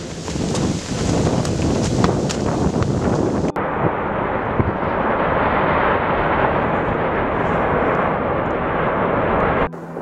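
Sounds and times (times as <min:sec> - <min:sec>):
volcanic eruption roar: 0:00.0 - 0:09.7
low rumble: 0:00.0 - 0:10.0.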